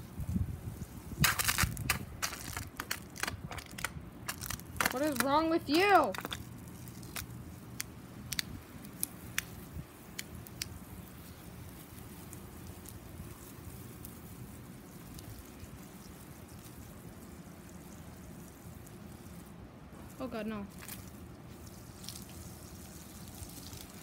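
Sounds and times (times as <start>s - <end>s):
hose spraying water on turf: 0.0s - 24.0s.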